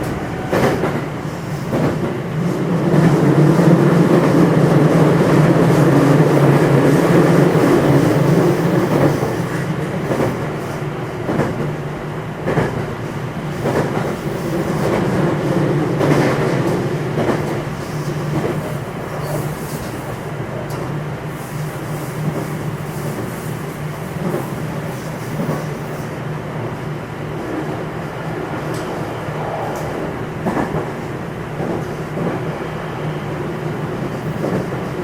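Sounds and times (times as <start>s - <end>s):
low rumble of train wheels: 0.0s - 35.0s.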